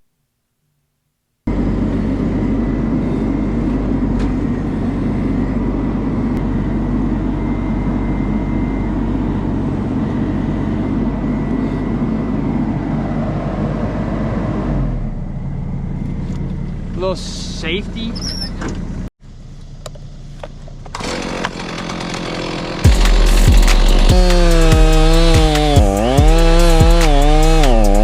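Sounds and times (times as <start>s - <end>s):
engine running loud: 1.5s - 18.1s, 20.9s - 28.0s.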